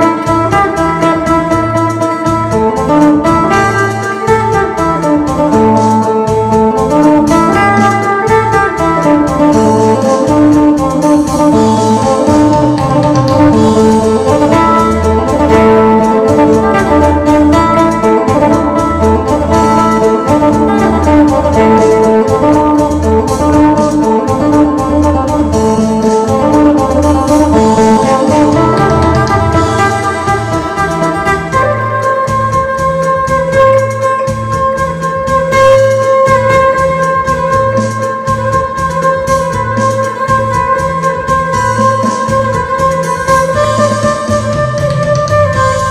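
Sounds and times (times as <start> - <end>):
plucked lute melody: 0.0 - 45.9
repeating bass beat: 0.0 - 45.9.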